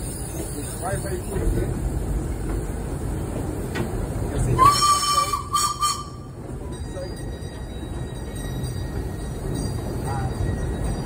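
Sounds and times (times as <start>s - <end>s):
railway carriage rumbling: 0.0s - 11.0s.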